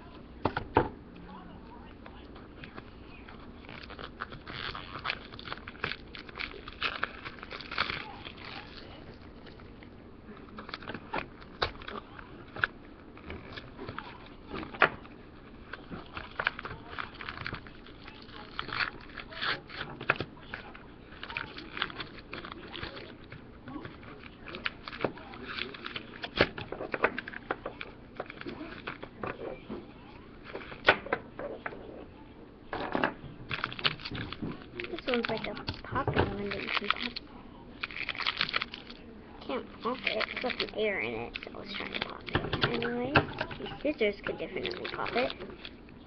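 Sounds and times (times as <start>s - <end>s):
plastic packet crinkling: 2.6s - 29.4s, 30.3s - 31.2s, 33.4s - 46.0s.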